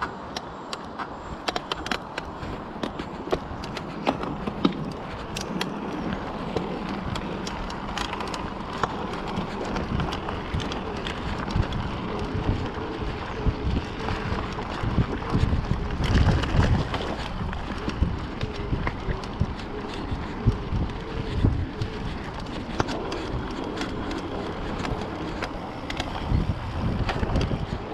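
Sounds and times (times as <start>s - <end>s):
gravel and bike rattles: 0.0s - 27.9s
wind buffeting microphone: 0.0s - 27.9s
tyres crunching on gravel: 0.9s - 27.9s.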